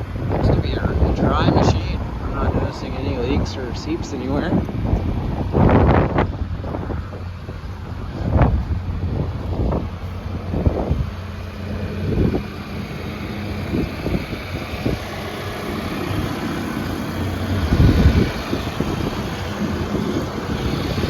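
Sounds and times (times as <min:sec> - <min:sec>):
diesel engine idling: 0:00.0 - 0:21.0
wind gusting on microphone: 0:00.0 - 0:21.0.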